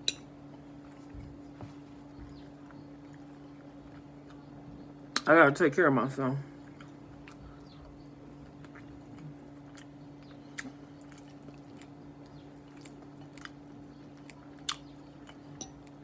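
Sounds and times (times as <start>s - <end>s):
steady low hum: 0.0s - 16.0s
person quietly chewing food: 0.2s - 5.3s, 6.5s - 16.0s.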